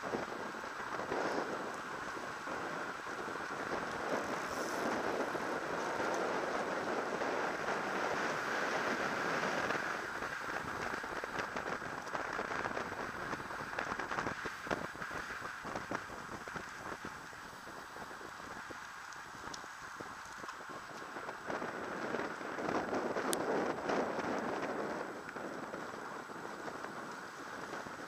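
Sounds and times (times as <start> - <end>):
tyre and road noise: 0.0 - 28.0
wind rushing over microphone: 0.0 - 28.0.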